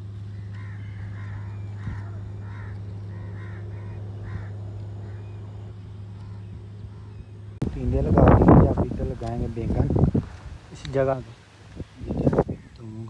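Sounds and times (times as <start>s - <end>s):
bird calling: 0.0s - 13.0s
steady low hum: 0.0s - 13.0s.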